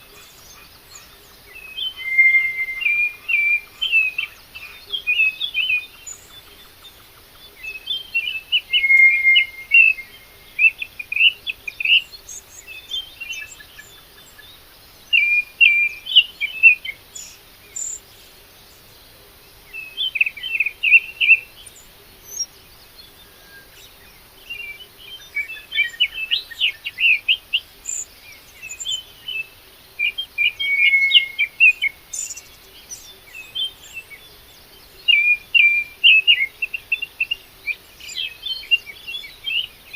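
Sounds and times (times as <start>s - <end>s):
songbird chirping and twittering: 0.0s - 39.9s.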